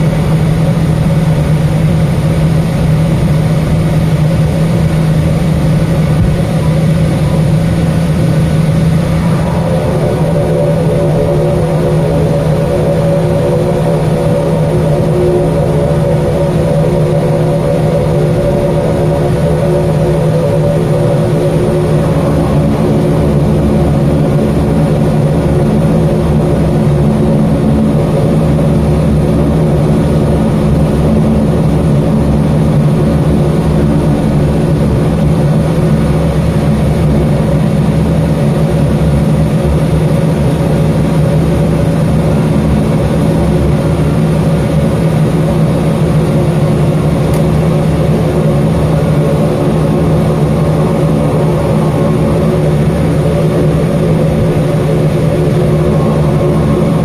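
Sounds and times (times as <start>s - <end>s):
turboprop engines from cabin: 0.0s - 57.0s.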